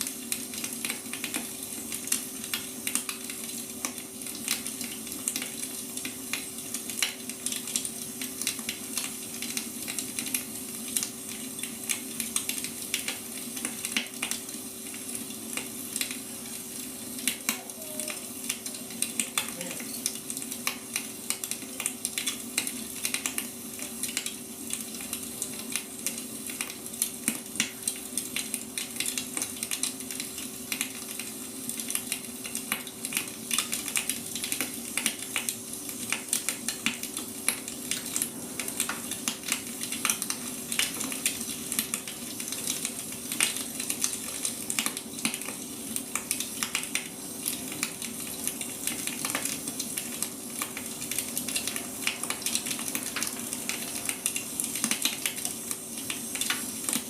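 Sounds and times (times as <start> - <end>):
faint steady hum: 0.0 - 57.0
wood fire crackling: 0.0 - 57.0.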